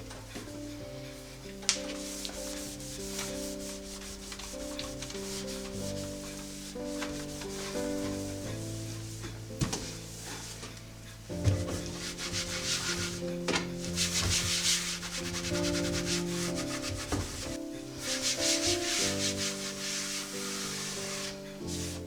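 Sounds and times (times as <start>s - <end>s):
scrubbing a surface: 0.0s - 22.0s
soft background music: 0.0s - 22.0s.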